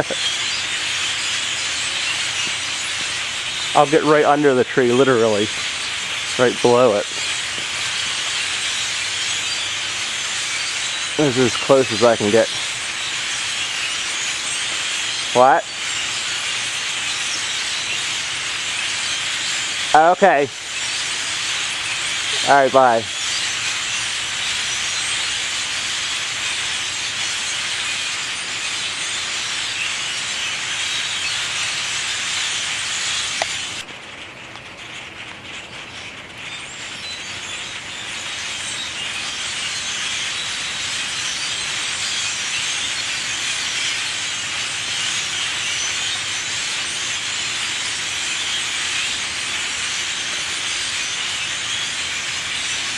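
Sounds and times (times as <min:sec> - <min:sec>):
flock of birds chattering: 0:00.0 - 0:52.9.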